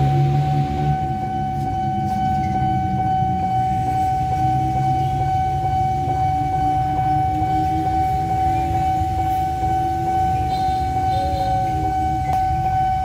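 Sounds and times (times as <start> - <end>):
level crossing alarm tone: 0.0 - 13.0
low rumble of traffic: 0.0 - 13.0.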